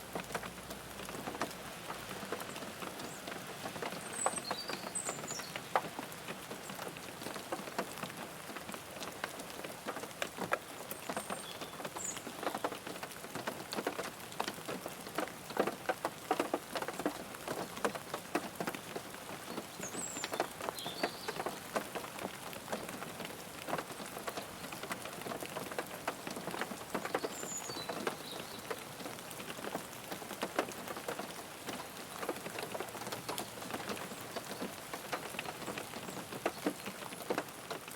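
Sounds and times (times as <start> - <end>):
rain falling on car roof: 0.0 - 37.9.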